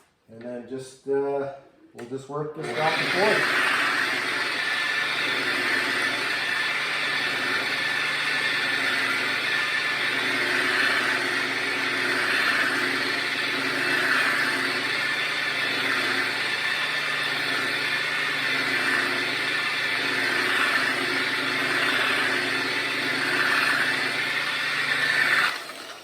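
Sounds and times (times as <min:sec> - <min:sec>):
electric polisher whining: 0:02.6 - 0:26.0.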